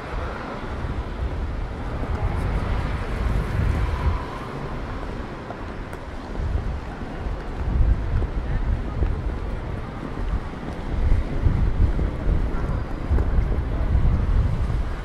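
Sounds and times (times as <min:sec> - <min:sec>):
distant traffic: 0:00.0 - 0:15.0
wind buffeting microphone: 0:00.0 - 0:15.0.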